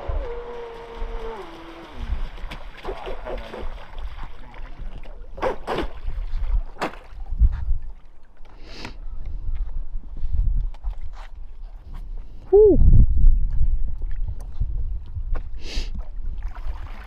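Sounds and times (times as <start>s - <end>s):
wind rumble on microphone: 0.0s - 8.2s, 8.9s - 17.0s.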